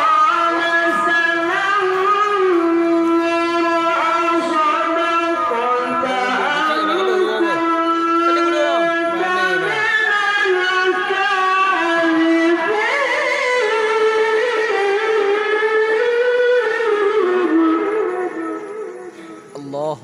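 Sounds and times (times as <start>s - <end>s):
person chanting: 0.0s - 18.6s.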